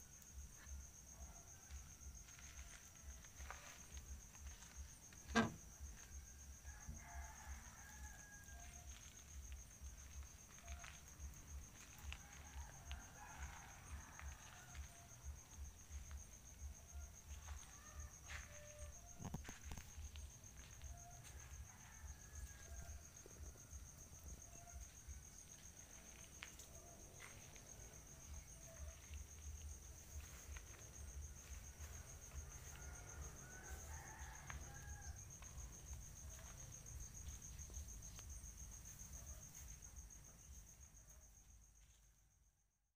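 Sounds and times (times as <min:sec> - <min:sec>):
insect trill: 0:00.0 - 0:42.9.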